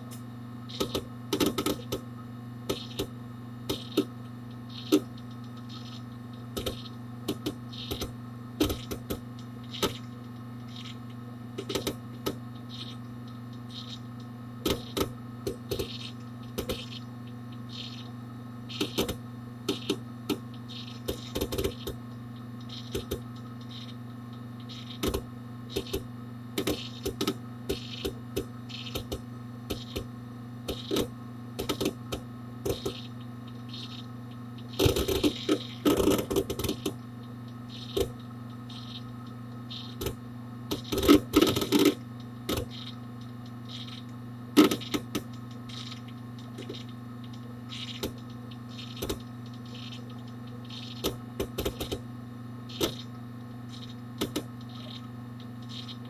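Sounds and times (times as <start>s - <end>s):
hard disk drive clicking: 0.0s - 56.0s
steady low hum: 0.0s - 56.0s.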